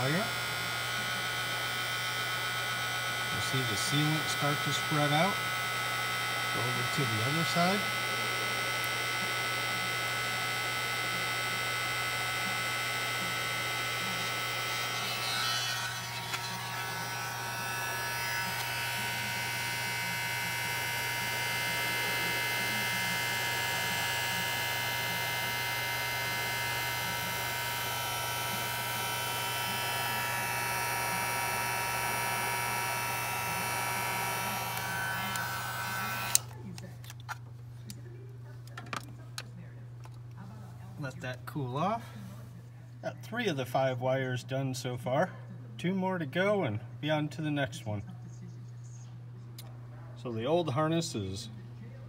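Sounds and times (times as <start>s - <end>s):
heat gun fan humming: 0.0s - 52.0s.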